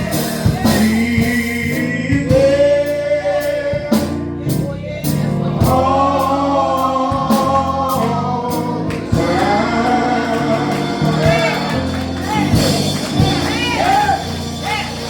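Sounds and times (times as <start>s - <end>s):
band with bass and keys: 0.0s - 15.0s
gospel singers: 0.0s - 15.0s.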